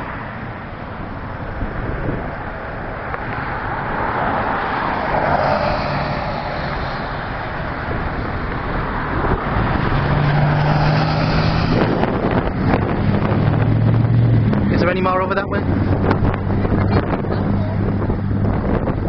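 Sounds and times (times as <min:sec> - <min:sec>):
low engine hum: 0:00.0 - 0:19.0
vehicles going by: 0:00.0 - 0:19.0.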